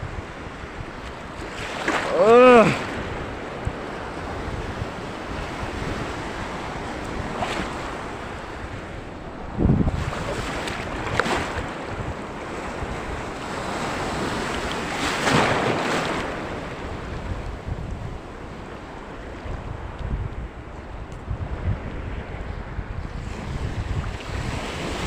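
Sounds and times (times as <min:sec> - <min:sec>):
sea waves washing in: 0:00.0 - 0:25.0
wind buffeting microphone: 0:00.0 - 0:25.0.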